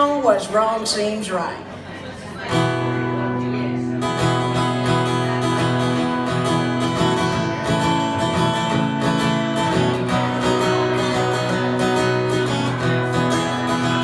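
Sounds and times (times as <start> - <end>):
acoustic guitar strumming: 2.4 - 14.0.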